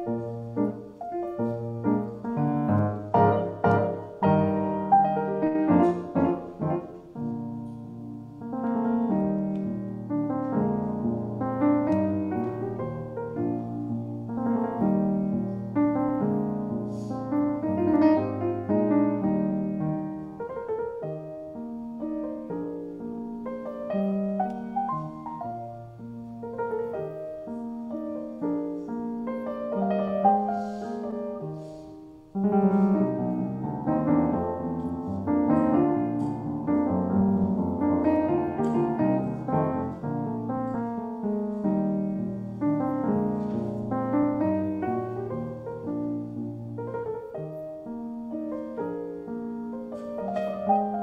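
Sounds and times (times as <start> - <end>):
slow solo piano piece: 0.0 - 51.0.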